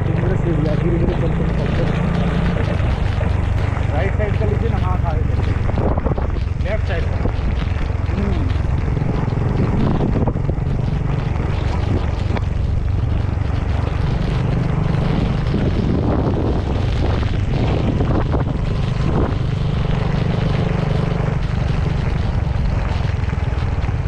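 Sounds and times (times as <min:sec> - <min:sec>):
motorcycle engine running: 0:00.0 - 0:24.0
rain and tyre spray hiss: 0:00.0 - 0:24.0.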